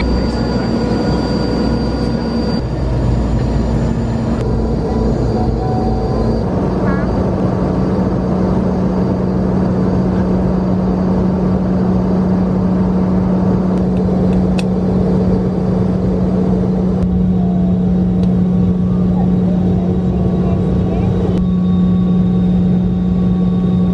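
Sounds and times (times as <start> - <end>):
airliner cabin engine drone: 0.0 - 23.9.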